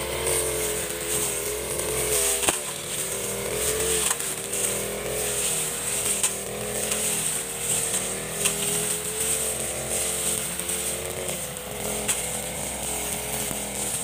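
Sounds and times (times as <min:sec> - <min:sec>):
brush cutter engine running: 0:00.0 - 0:14.0.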